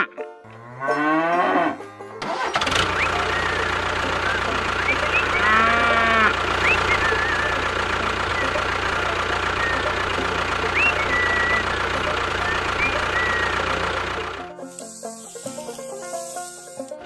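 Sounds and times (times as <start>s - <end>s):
engine idling: 2.0s - 17.0s
birds chirping: 2.6s - 16.8s.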